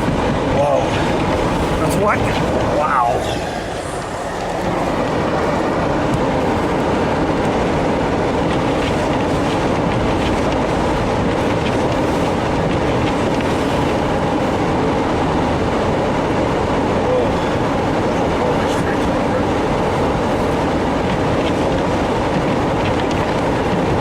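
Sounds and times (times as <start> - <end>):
tyres driving through snow: 0.0 - 24.0
vehicle engine: 0.0 - 24.0
wind: 0.0 - 24.0.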